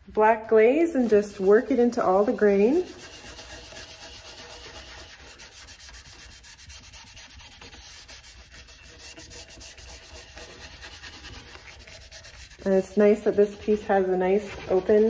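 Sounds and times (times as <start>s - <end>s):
paint brush scrubbing wood: 0.0s - 15.0s.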